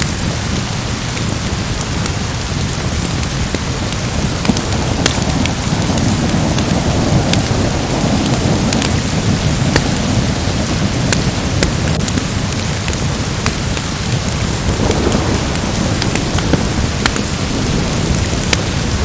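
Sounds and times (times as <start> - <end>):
heavy rain: 0.0 - 19.0
wood fire crackling: 0.0 - 19.0
rolling thunder: 1.2 - 19.0.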